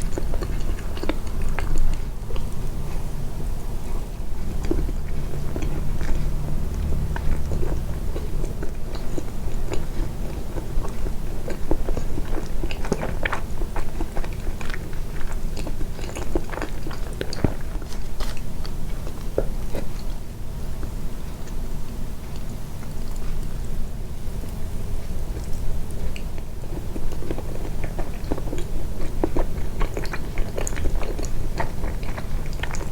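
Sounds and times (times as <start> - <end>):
person chewing soft sweets: 0.0 - 32.9.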